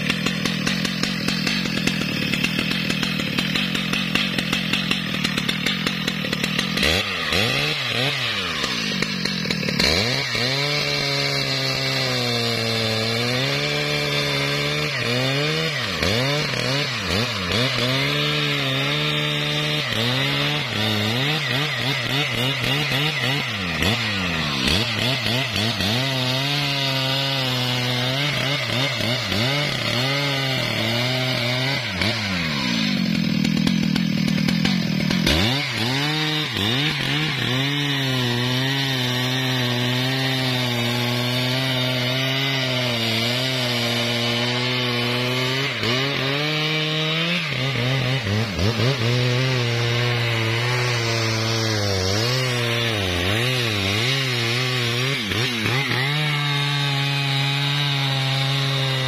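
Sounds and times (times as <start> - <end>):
chainsaw cutting into wood: 0.0 - 59.0.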